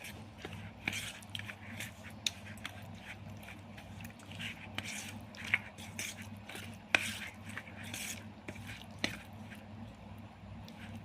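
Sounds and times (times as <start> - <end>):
wet squishing and scraping in bowl: 0.0 - 11.0.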